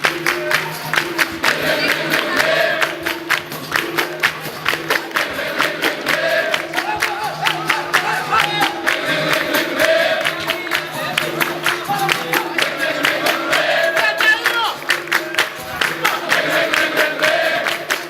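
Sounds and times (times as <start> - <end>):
group singing in chorus: 0.0 - 18.0
hand-clapping and percussion: 0.0 - 18.0.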